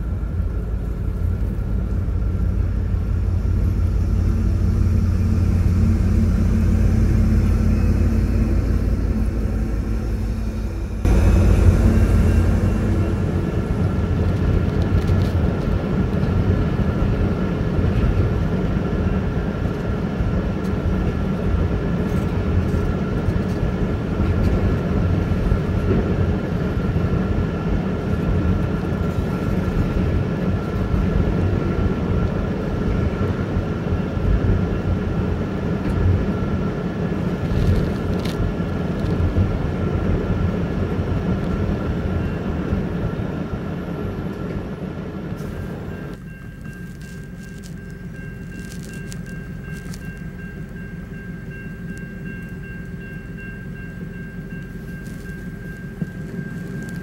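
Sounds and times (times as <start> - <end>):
car heater running: 0.0 - 57.0
train cars rumbling on rails: 0.0 - 57.0.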